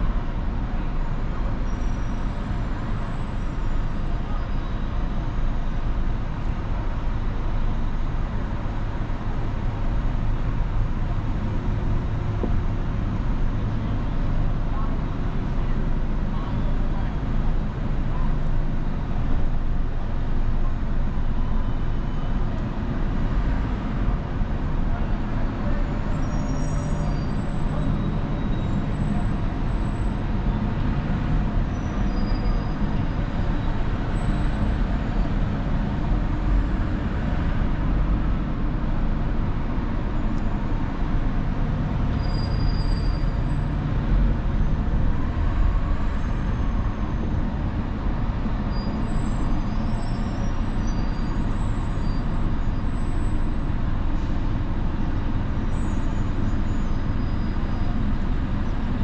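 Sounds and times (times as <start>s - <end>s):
car driving road noise: 0.0s - 59.0s
traffic: 0.0s - 59.0s.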